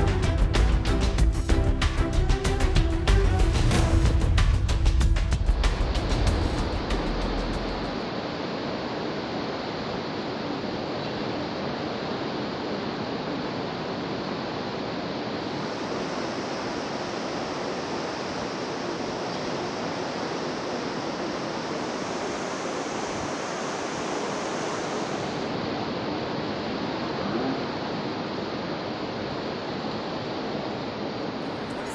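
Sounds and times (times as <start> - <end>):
sea rushing: 0.0 - 31.9
wind: 4.4 - 31.9.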